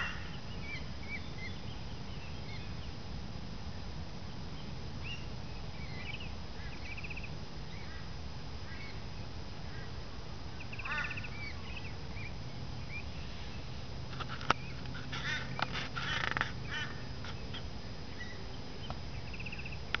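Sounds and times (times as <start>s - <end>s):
birds calling: 0.0s - 3.0s, 3.7s - 20.0s.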